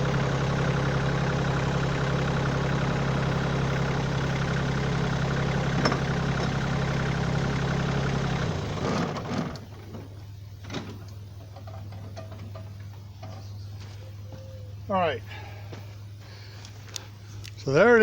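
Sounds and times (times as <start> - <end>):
engine rattle shutting off: 0.0 - 17.8
diesel tractor engine idling: 0.0 - 18.0.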